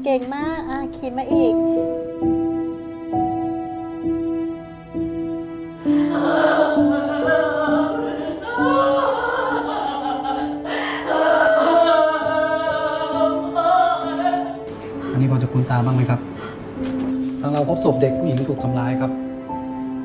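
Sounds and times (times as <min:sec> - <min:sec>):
sad background music: 0:00.0 - 0:20.0.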